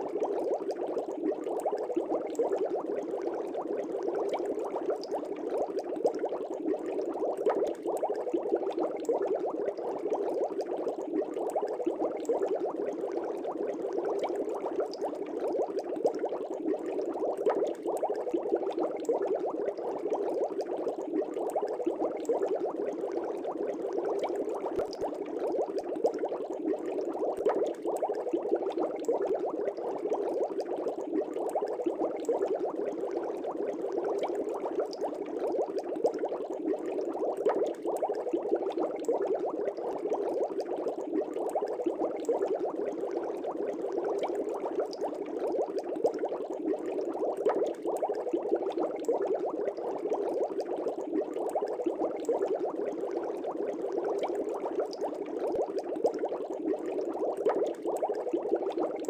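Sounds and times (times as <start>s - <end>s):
fish tank air bubbles: 0.0s - 59.0s.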